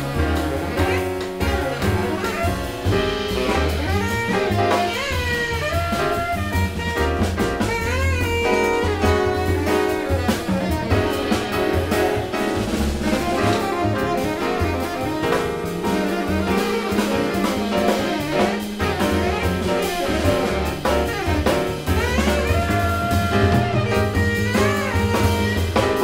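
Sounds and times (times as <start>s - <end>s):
drum kit with cymbals: 0.0s - 26.0s
plucked double bass: 0.0s - 26.0s
tenor saxophone melody: 0.0s - 26.0s.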